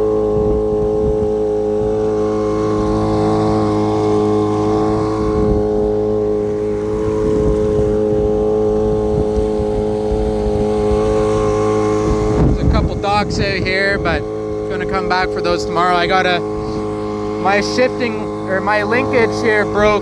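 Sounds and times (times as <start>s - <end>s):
boat motor at full throttle: 0.0s - 20.0s.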